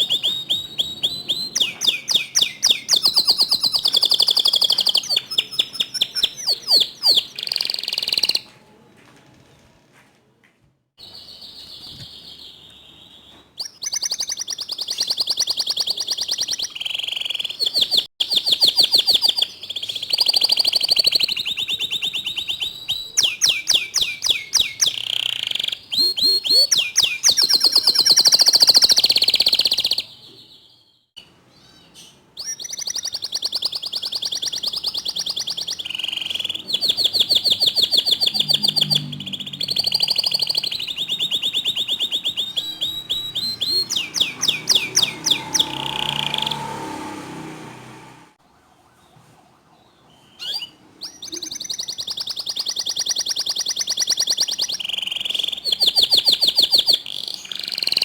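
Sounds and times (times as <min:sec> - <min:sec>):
canary singing trills: 0:00.0 - 0:08.5, 0:11.0 - 0:47.6, 0:50.1 - 0:58.0.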